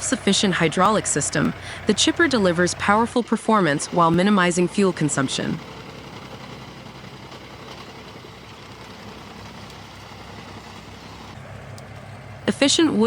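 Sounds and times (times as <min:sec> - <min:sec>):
wood chipper engine hum: 0:00.0 - 0:13.0.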